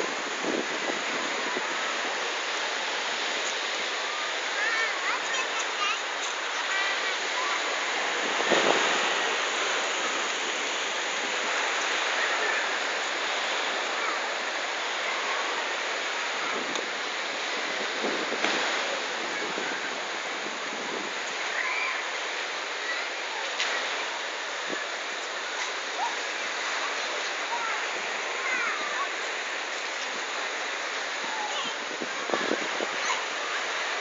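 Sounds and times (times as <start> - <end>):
faint voices: 0.0 - 34.0
sea surf washing ashore: 0.0 - 34.0.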